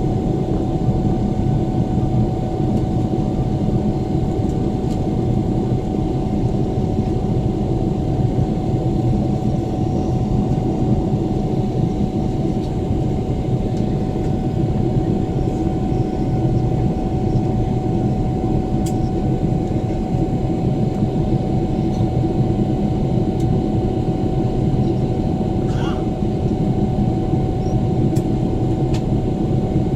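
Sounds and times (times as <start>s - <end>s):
jet engine drone and rushing air: 0.0s - 29.9s.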